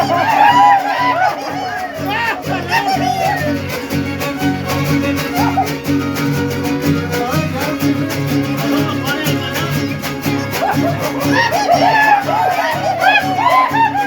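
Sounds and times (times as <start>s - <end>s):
guitars strumming: 0.0s - 14.0s
violin melody: 0.0s - 14.0s.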